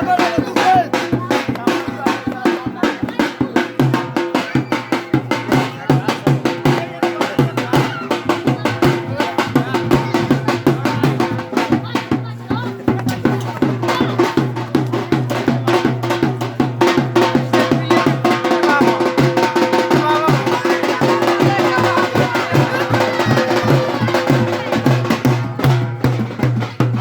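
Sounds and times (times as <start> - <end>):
drum group playing: 0.0 - 27.0
faint melody or voices: 0.0 - 27.0.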